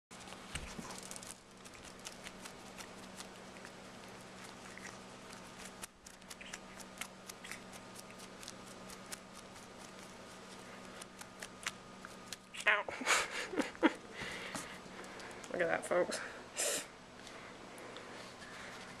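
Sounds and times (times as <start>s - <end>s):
faint steady hum: 0.1s - 19.0s.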